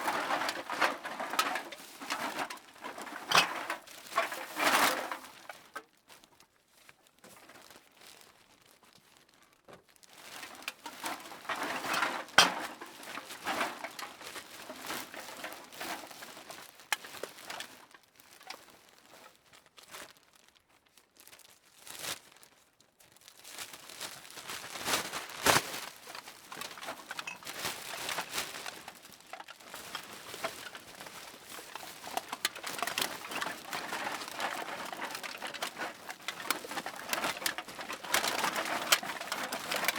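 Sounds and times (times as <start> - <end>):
bag crinkling: 7.4 - 39.9.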